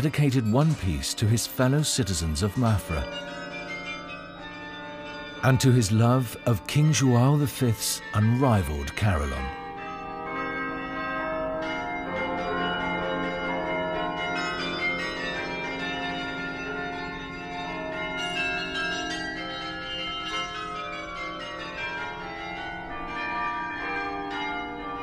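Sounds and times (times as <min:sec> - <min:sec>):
carillon bells playing melody: 0:00.0 - 0:25.0.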